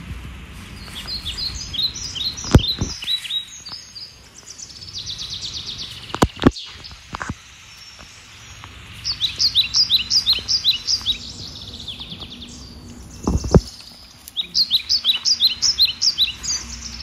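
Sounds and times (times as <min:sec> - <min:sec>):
small birds chirping: 0:00.0 - 0:17.0
bird trill: 0:00.7 - 0:17.0.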